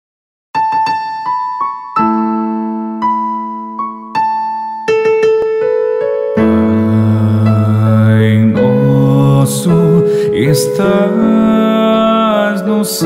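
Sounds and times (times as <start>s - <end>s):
slow solo piano: 0.6s - 13.0s.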